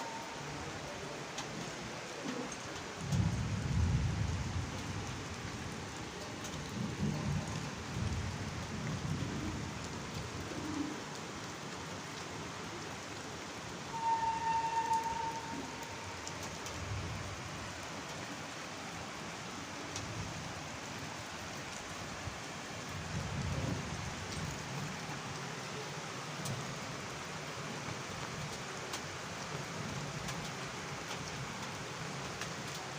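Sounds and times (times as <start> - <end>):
steady rain: 0.0 - 32.9
raindrop ticks: 1.2 - 18.6, 19.8 - 32.9.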